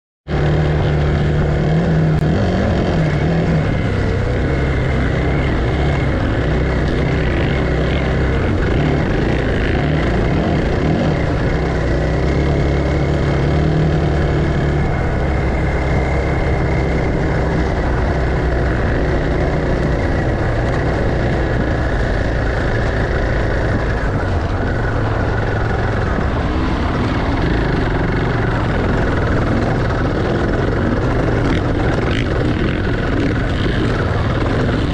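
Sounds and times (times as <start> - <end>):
engine droning steadily: 0.2 - 34.9.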